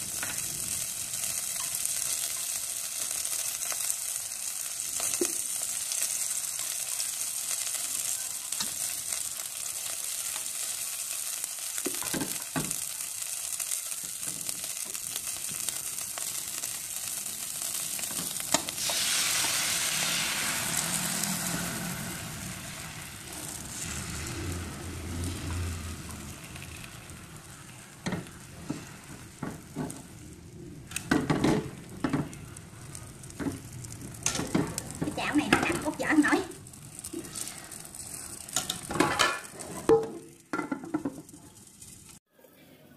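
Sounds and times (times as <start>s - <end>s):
batter sizzling in hot oil: 0.0s - 42.2s.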